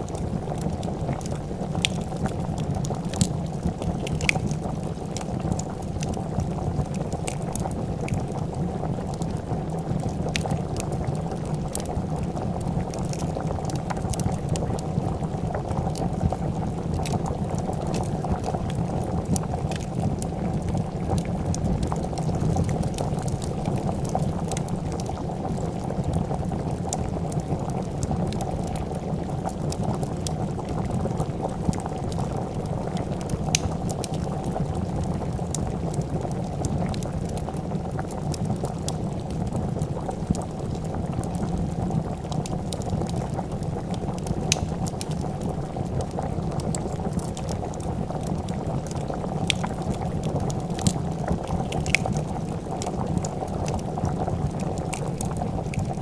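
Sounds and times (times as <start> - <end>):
soup bubbling at a boil: 0.0 - 56.0
wood fire crackling: 0.0 - 56.0.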